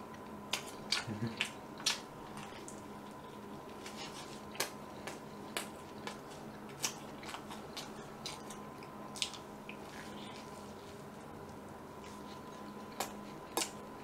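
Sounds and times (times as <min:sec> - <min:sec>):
person chewing crunchy pastry: 0:00.1 - 0:14.0.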